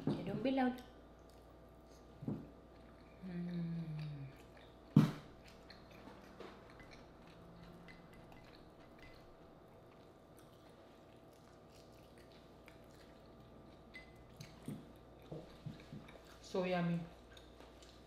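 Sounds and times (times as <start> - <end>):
low room hum: 0.0 - 18.0
quiet chewing: 0.7 - 18.0.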